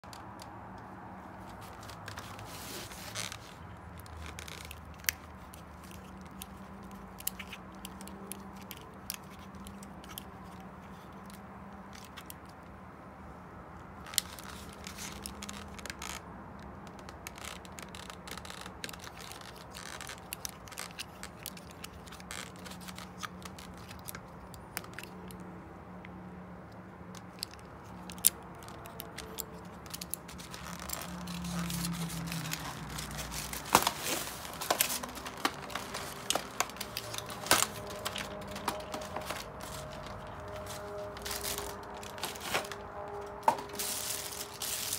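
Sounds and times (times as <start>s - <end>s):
plastic packaging crinkling: 1.4s - 12.4s, 14.0s - 16.2s, 16.9s - 25.3s, 27.2s - 44.9s.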